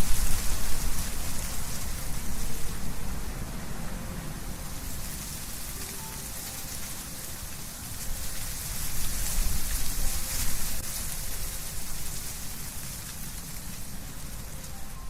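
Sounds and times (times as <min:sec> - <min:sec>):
wind rustling tree leaves: 0:00.0 - 0:15.0.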